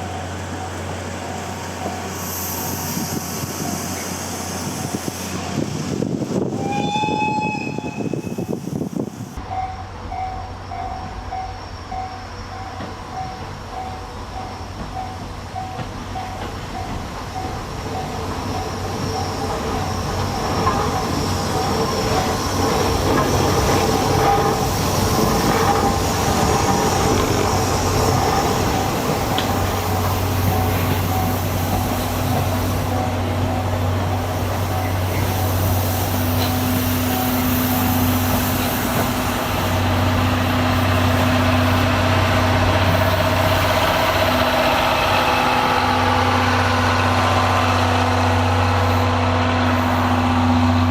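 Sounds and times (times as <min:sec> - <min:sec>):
train running past: 0:00.0 - 0:50.9.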